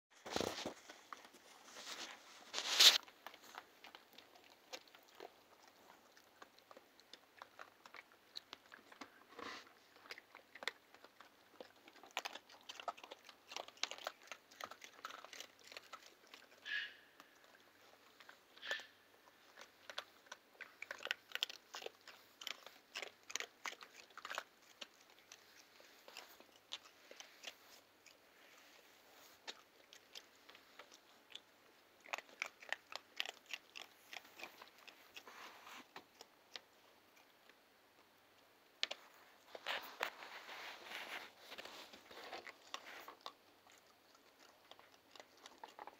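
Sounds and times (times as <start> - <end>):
raccoon chewing and crunching: 0.2 - 45.9.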